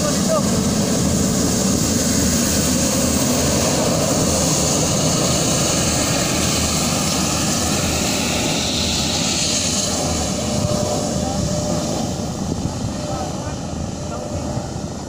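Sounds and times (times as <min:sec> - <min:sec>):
jet engines at taxi power: 0:00.0 - 0:15.0.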